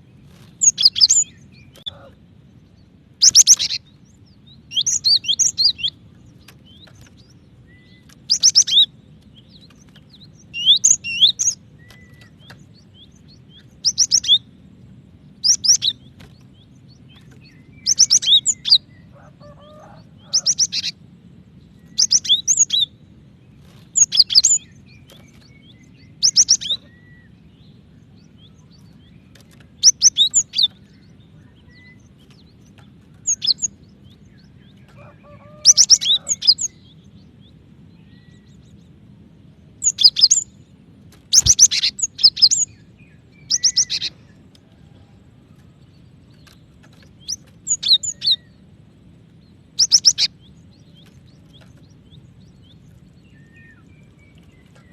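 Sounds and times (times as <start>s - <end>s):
faint low hum: 0.0s - 54.9s
bird chirping rapidly: 0.5s - 2.1s, 2.8s - 14.6s, 15.4s - 21.0s, 21.6s - 23.0s, 23.9s - 37.1s, 39.8s - 40.6s, 41.3s - 44.3s, 46.4s - 48.6s, 49.7s - 54.9s.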